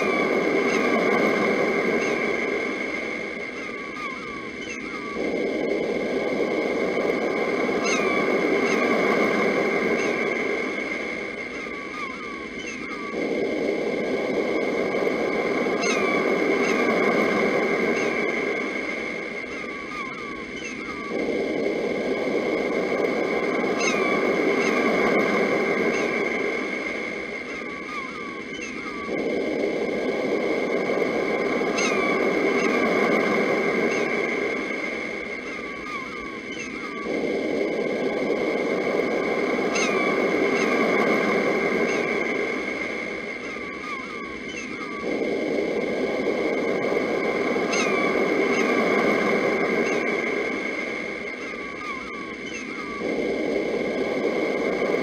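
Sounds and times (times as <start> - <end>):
birds chirping: 0.0 - 55.0
sea waves rolling in: 0.0 - 55.0.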